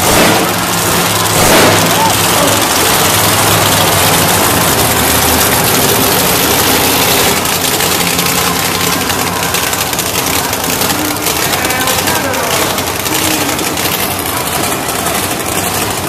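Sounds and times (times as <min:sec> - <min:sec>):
truck engines idling loudly: 0:00.0 - 0:16.0.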